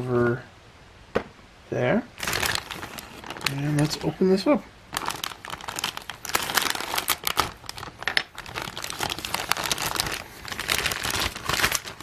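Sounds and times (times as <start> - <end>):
plastic bag crinkling: 2.2 - 12.0.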